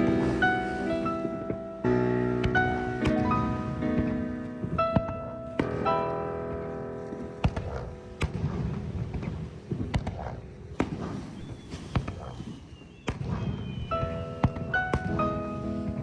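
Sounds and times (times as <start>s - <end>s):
piano music: 0.0s - 11.6s, 13.8s - 16.0s
fireworks bangs: 0.0s - 16.0s
rumble of firework bursts: 0.0s - 16.0s.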